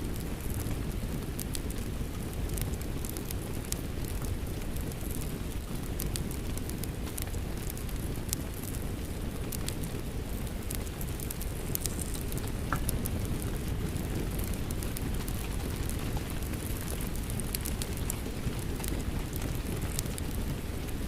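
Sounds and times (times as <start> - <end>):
wood fire crackling: 0.0 - 21.0
rain falling: 4.1 - 21.0.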